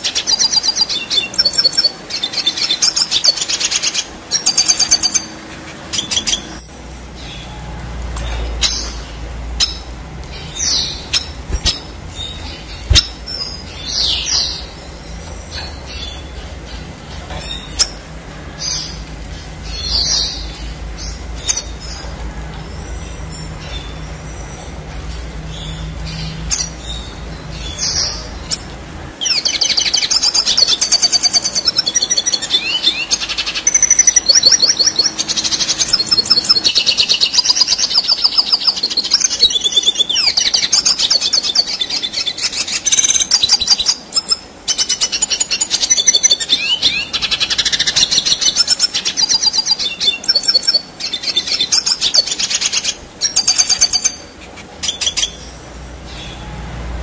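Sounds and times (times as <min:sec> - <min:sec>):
bird twittering song: 0:00.0 - 0:56.5.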